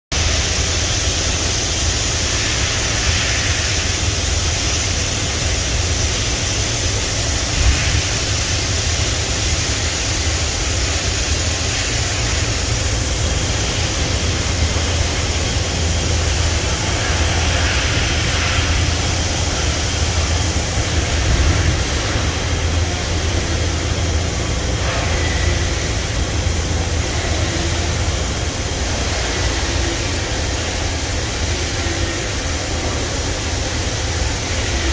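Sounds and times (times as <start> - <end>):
machining center humming and hissing: 0.1 - 34.9.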